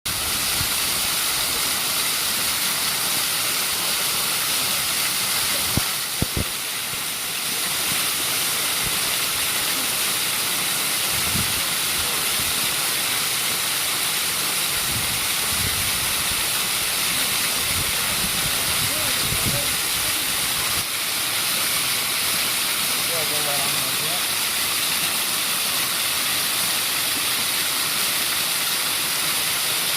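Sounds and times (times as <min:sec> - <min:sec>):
waterfall rushing: 0:00.1 - 0:29.9.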